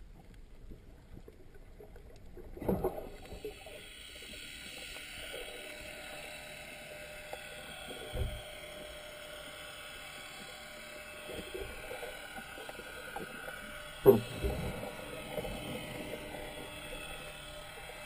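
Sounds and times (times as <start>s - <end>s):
muffled underwater hiss: 1.8s - 18.0s.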